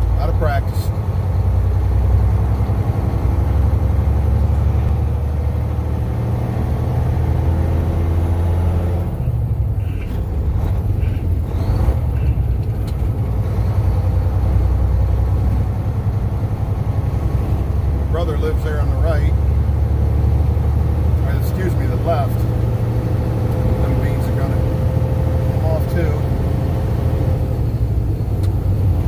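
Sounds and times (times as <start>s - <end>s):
truck engine low rumble: 0.0s - 29.0s.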